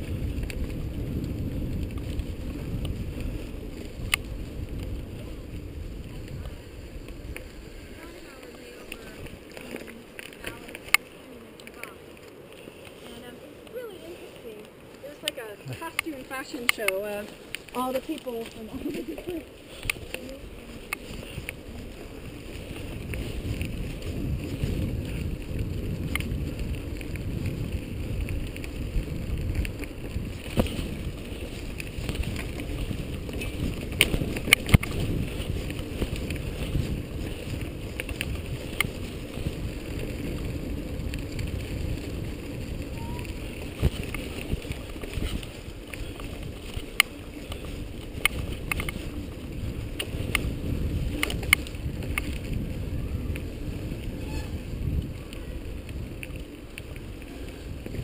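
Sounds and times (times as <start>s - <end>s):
bike rattling over bumps: 0.0s - 13.6s, 14.4s - 58.0s
bike rolling over dirt trail: 0.0s - 58.0s
wind buffeting microphone: 0.0s - 58.0s.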